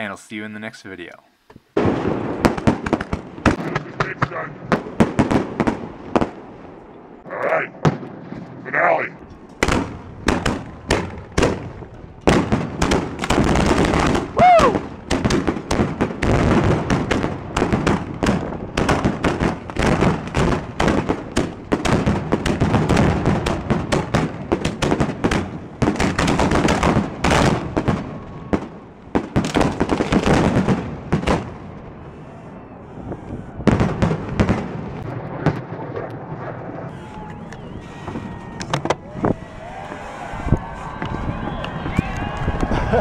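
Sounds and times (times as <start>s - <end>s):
fireworks launching and bursting: 1.4s - 43.0s.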